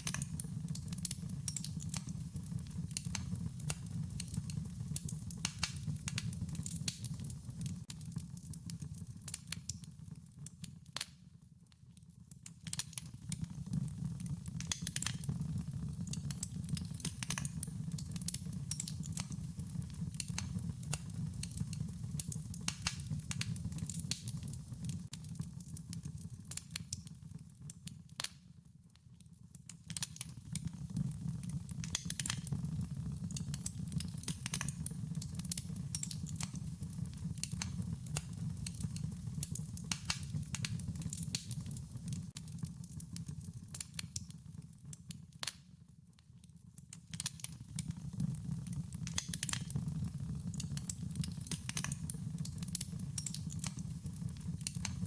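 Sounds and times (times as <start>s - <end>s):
low steady fire rumble: 0.0s - 46.0s, 46.8s - 55.0s
wood fire crackling and popping: 0.0s - 55.0s.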